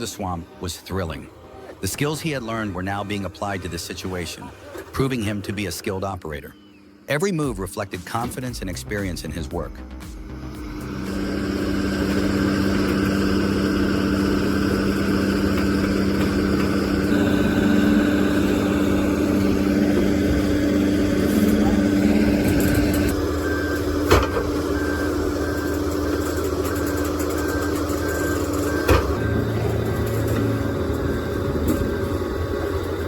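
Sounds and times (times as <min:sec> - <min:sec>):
diesel engine humming: 0:00.0 - 0:33.0
electronic alarm beeping: 0:05.1 - 0:33.0.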